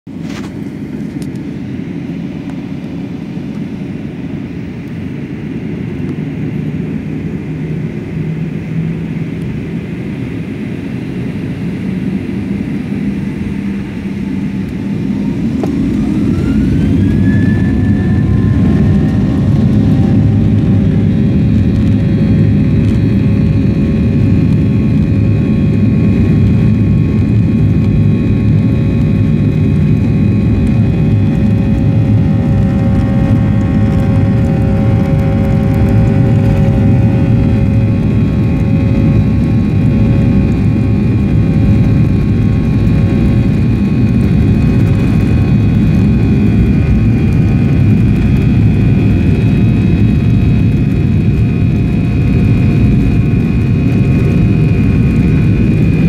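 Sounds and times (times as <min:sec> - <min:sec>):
jet engine rumble: 0:00.1 - 0:56.0
jet engine whine: 0:00.1 - 0:56.0.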